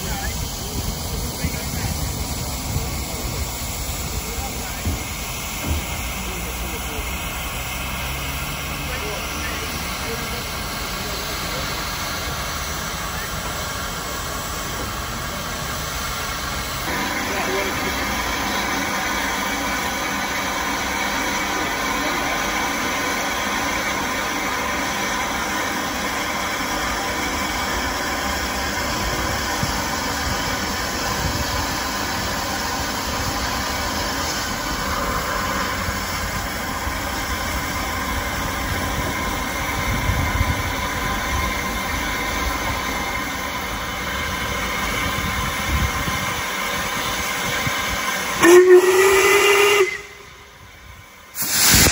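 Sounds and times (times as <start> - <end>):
train rumble and hum: 0.0 - 51.9.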